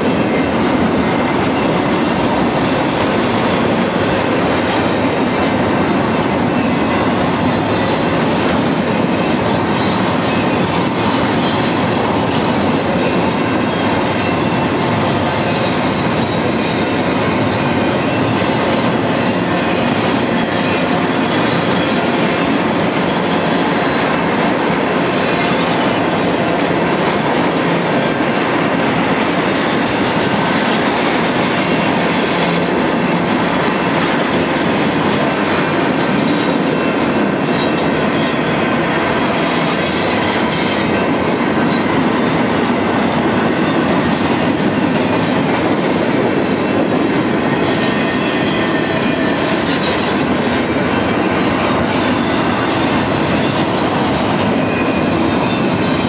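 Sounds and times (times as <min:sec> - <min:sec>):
freight train wheels rolling on rails: 0:00.0 - 0:56.0.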